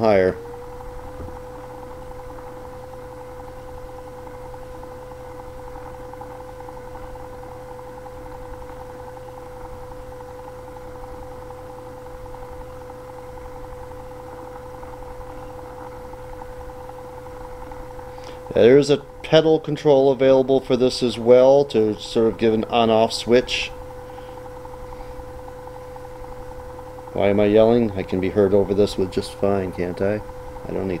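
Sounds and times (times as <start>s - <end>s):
electric spinning wheel humming: 0.0s - 31.0s.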